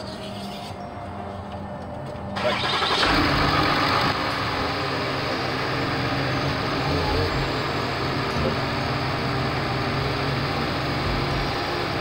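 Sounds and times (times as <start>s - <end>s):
diesel engine starting and idling: 2.3s - 12.0s.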